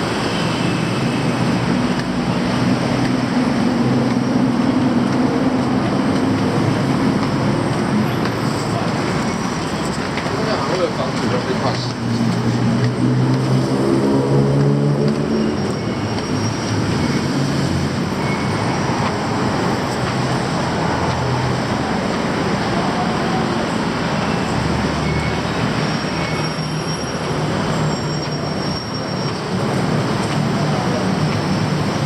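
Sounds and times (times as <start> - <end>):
train rolling rumble: 0.0 - 32.0
wheels squealing: 0.0 - 32.0.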